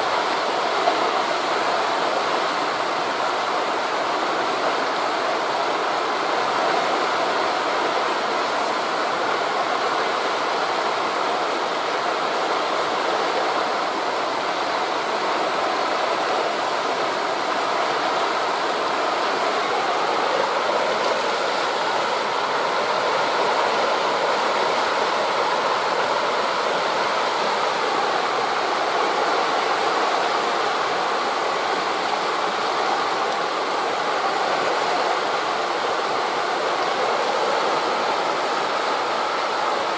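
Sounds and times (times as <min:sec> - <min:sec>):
distant sea surf: 0:00.0 - 0:39.9
wind through forest leaves: 0:00.0 - 0:39.9.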